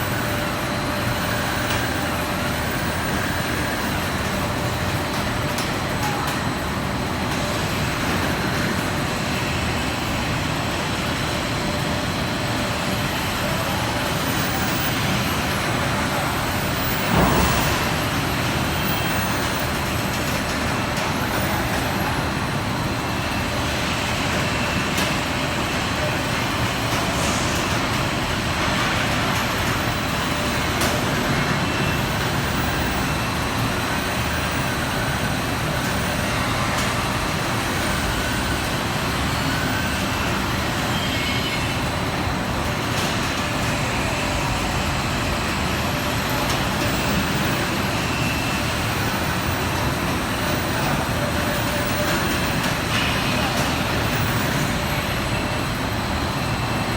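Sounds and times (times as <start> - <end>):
machinery rumble and hiss: 0.0 - 56.9.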